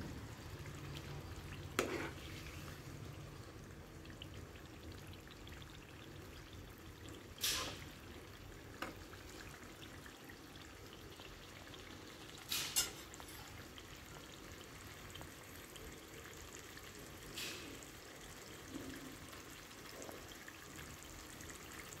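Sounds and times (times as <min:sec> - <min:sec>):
curry sizzling in a pan: 0:00.0 - 0:22.0.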